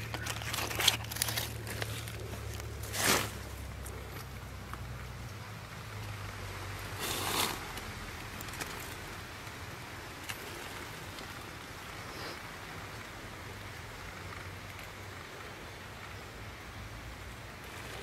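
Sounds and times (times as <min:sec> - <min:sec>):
rustle: 0:00.0 - 0:18.0
outdoor hiss: 0:01.4 - 0:18.0.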